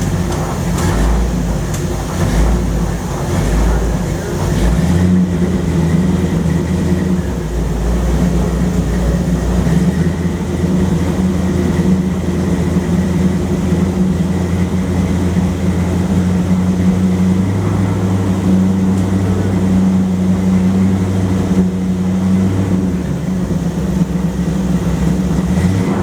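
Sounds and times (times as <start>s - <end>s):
car engine running steadily: 0.0s - 26.0s.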